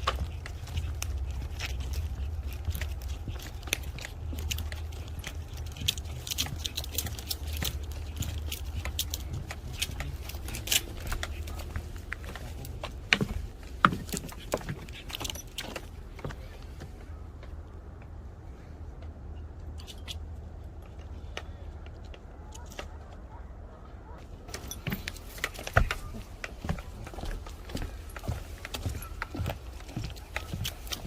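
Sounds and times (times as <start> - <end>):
footsteps on a trail: 0.0 - 19.2, 24.1 - 31.0.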